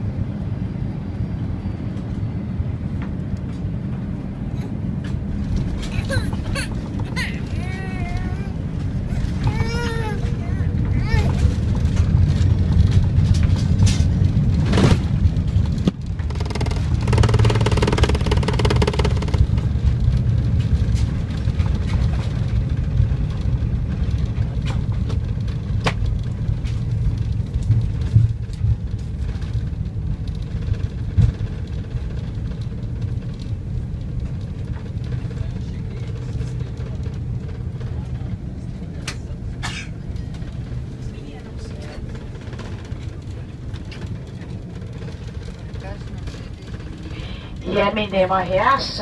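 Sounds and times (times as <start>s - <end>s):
airliner cabin rumble: 0.0s - 49.0s.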